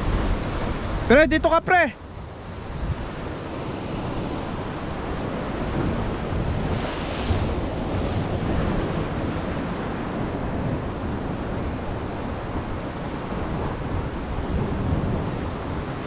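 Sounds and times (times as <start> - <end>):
wave crashing with spray hiss: 0.0 - 16.0
wind buffeting microphone: 2.0 - 16.0
waves breaking against rocks: 2.6 - 16.0.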